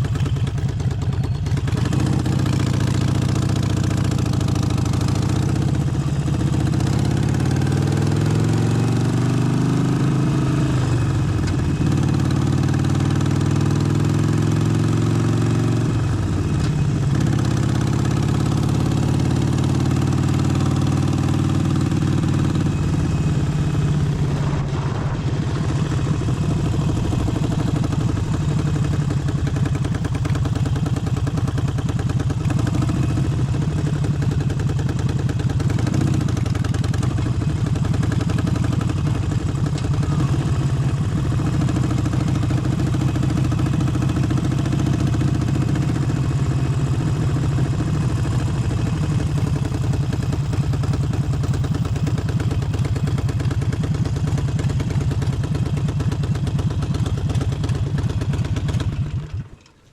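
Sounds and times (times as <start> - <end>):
motorcycle engine running: 0.0 - 59.8.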